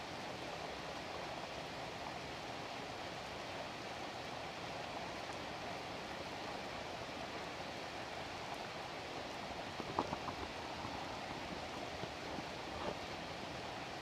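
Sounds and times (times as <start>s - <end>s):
storm rain and wind hiss: 0.0s - 14.0s.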